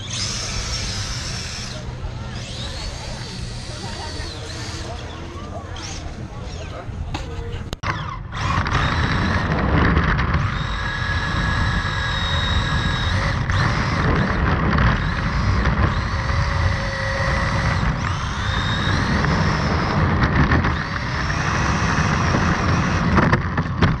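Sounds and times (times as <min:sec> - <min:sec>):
rc car motor whining: 0:00.0 - 0:24.0
tyre and vibration rumble: 0:00.0 - 0:24.0.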